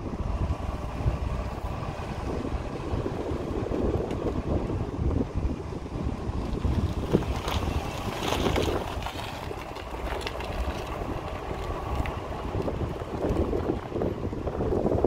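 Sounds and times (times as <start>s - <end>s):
car driving rumble: 0.0s - 15.0s
wind buffeting microphone: 0.0s - 15.0s.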